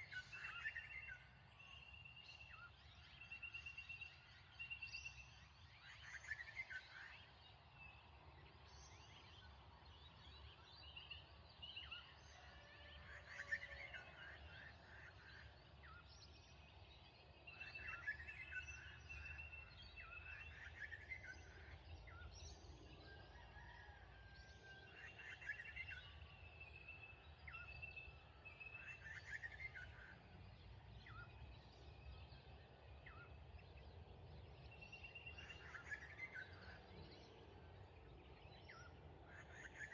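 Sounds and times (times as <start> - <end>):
faint birds chirping: 0.0 - 39.9.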